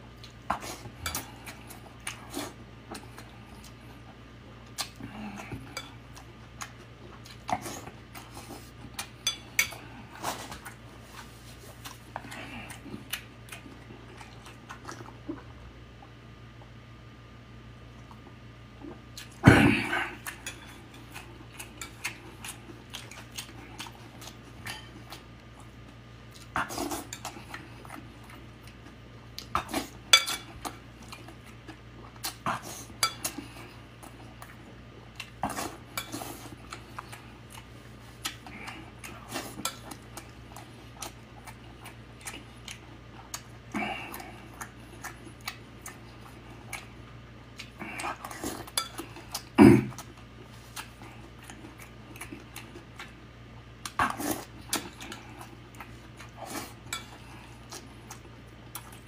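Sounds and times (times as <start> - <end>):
close chewing: 0.1 - 16.8, 20.0 - 59.0.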